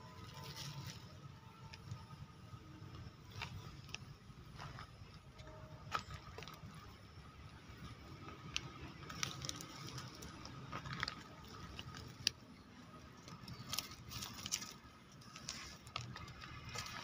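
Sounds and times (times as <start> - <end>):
dry leaves and gravel crackling: 0.0 - 17.0.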